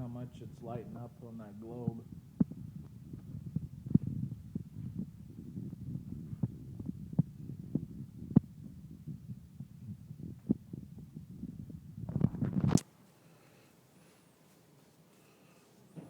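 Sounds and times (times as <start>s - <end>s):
kerosene heater burning: 0.0s - 16.0s.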